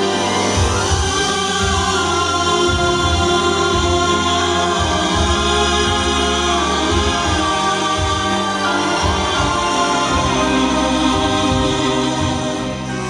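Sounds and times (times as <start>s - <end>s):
instrumental accompaniment with bass: 0.0s - 13.0s
vocal ensemble singing chords: 0.0s - 13.0s.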